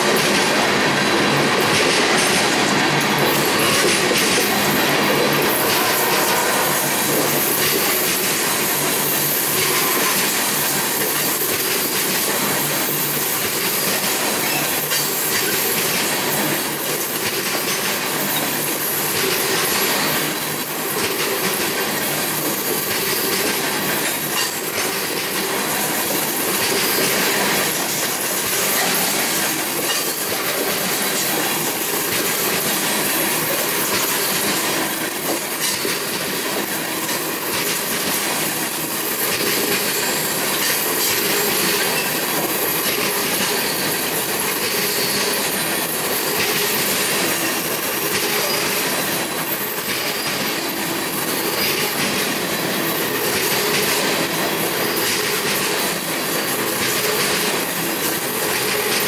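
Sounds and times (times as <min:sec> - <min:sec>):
train wheels rolling on rail: 0:00.0 - 0:59.0.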